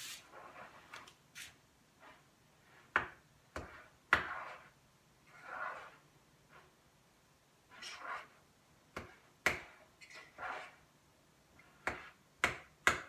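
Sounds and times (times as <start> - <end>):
soft scraping of dough: 0.0 - 6.9, 7.6 - 10.9, 11.5 - 12.2.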